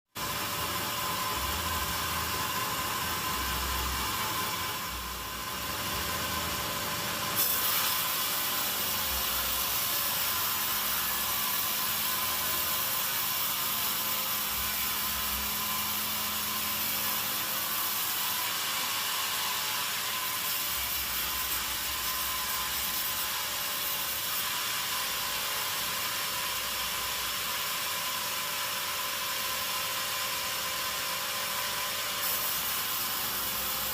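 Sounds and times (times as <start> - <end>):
sawmill saw cutting wood: 0.2 - 33.9.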